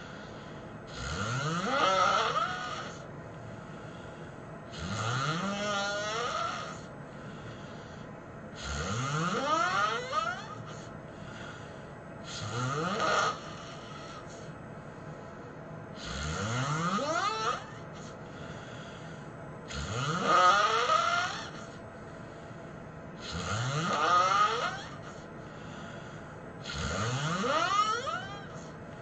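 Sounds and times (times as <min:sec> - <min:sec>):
person snoring: 0:00.0 - 0:03.1, 0:04.7 - 0:14.6, 0:15.9 - 0:21.8, 0:23.2 - 0:28.8.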